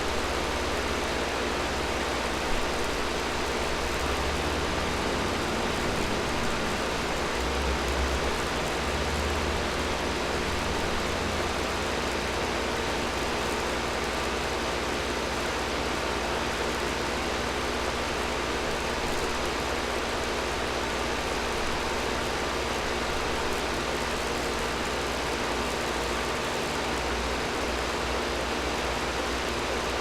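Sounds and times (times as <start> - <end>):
air conditioner running: 0.0 - 30.0.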